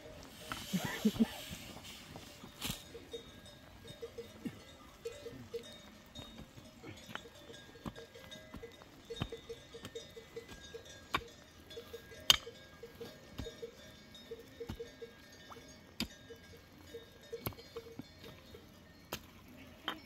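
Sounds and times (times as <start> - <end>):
livestock bells clinking: 0.0 - 20.0.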